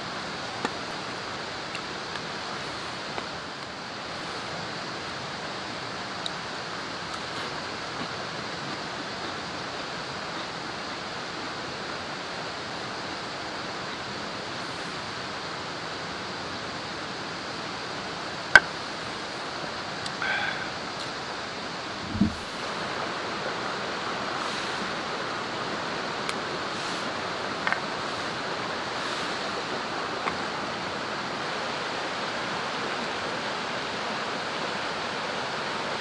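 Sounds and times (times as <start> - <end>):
steady rushing noise: 0.0 - 36.0.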